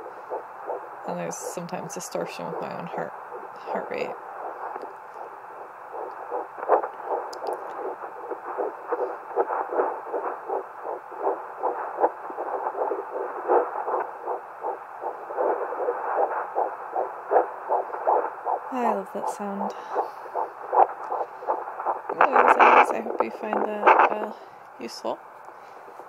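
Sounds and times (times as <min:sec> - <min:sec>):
fetal heartbeat from doppler speaker: 0:00.0 - 0:24.5.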